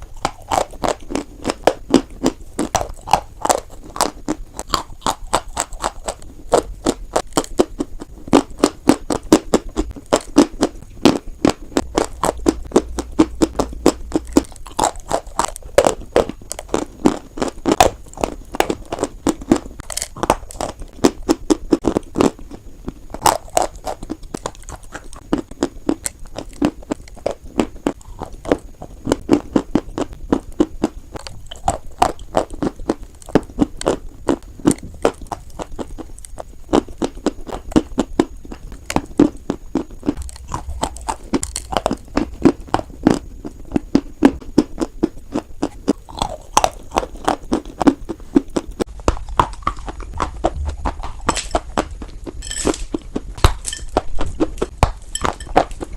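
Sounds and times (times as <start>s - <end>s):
chalk being chewed: 0.0s - 55.9s.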